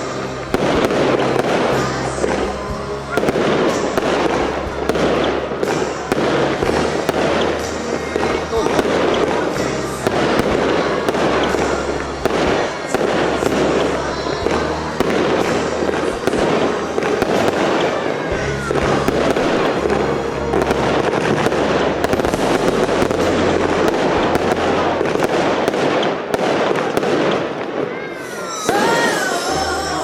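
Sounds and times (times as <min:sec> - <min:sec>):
fireworks bangs and pops: 0:00.0 - 0:29.7
music playing: 0:00.0 - 0:30.0.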